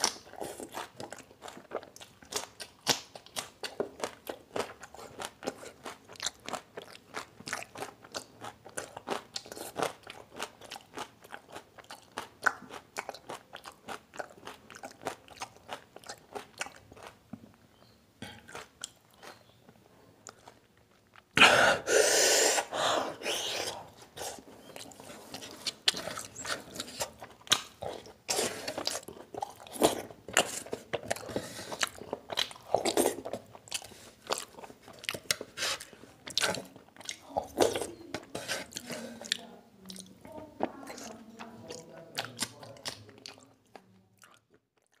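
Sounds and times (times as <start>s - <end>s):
chewing and lip-smacking: 0.0s - 19.6s, 20.2s - 21.4s, 23.3s - 45.0s.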